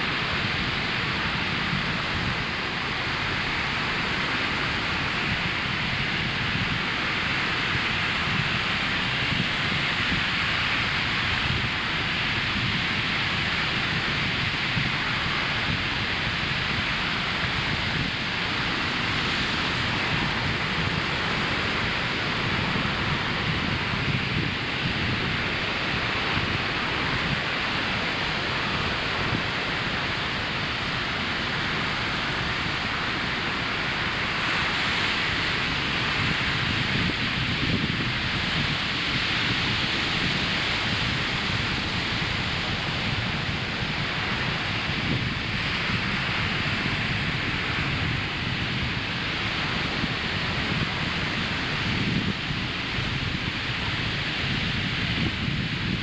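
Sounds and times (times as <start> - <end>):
waves breaking on beach: 0.0 - 56.0
wind on microphone: 0.0 - 56.0.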